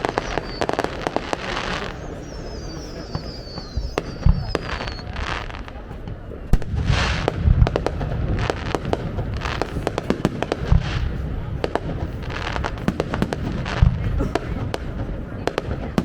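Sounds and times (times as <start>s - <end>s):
firework pops and crackling: 0.0s - 16.0s
firework shells booming: 0.0s - 16.0s.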